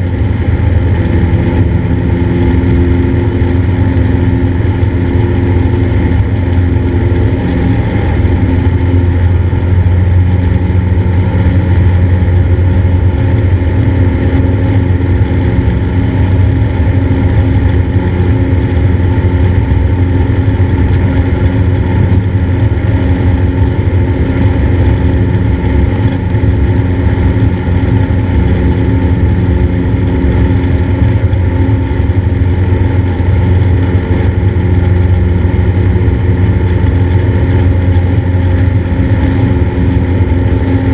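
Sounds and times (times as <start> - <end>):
propeller plane engine running: 0.0 - 40.9.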